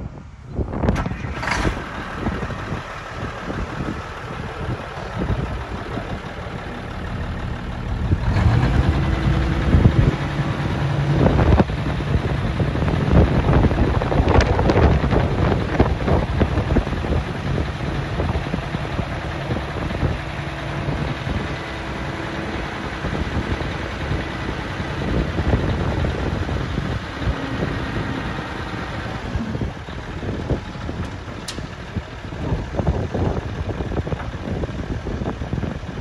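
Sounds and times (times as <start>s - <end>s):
wind buffeting microphone: 0.0s - 36.0s
diesel truck engine idling: 0.1s - 36.0s.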